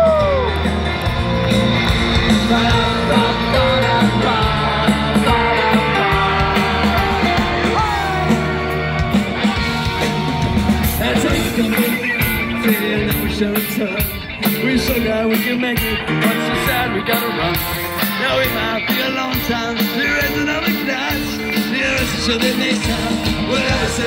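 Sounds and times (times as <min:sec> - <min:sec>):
punk rock band playing: 0:00.0 - 0:24.0
person singing: 0:02.2 - 0:08.8, 0:10.8 - 0:24.0.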